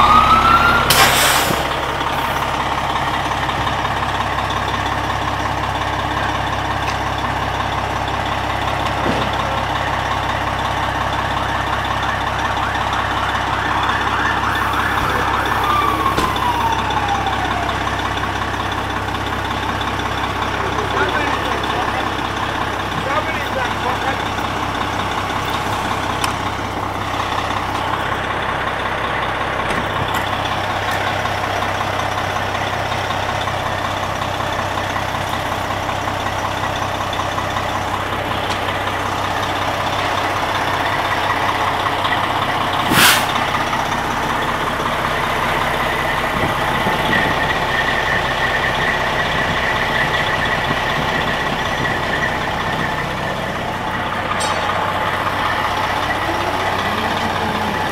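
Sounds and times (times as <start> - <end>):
fire truck engines idling: 0.0 - 57.9.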